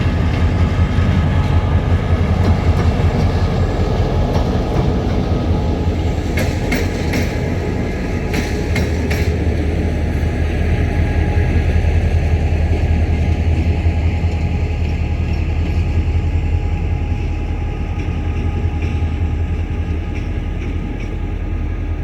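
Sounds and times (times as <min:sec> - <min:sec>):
diesel train drone: 0:00.0 - 0:22.0
wheels clicking over rail joints: 0:00.0 - 0:22.0.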